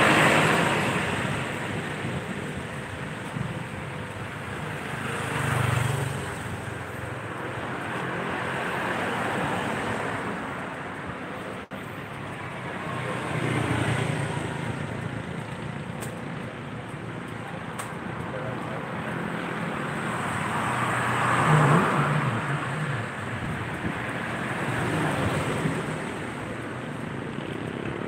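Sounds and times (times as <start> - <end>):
passing vehicles rushing: 0.0 - 28.0.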